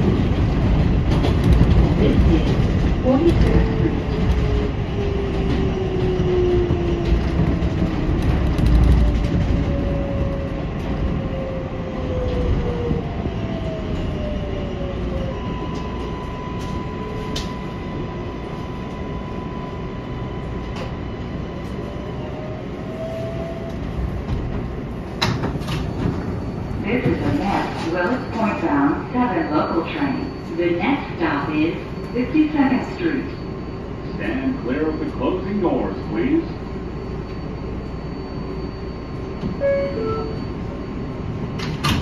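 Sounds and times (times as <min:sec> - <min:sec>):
train rumbling on rails: 0:00.0 - 0:42.0.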